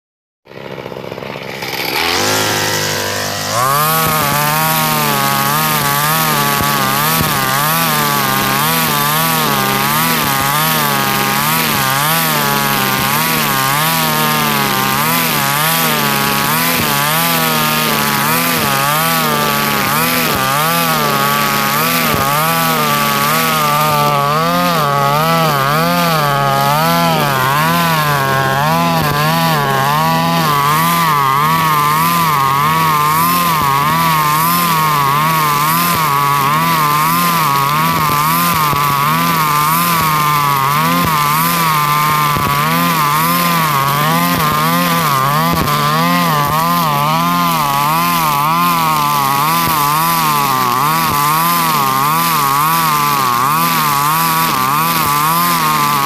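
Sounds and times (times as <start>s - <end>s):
brush cutter engine revving: 0.5s - 56.0s
nylon line cutting grass: 0.6s - 56.0s.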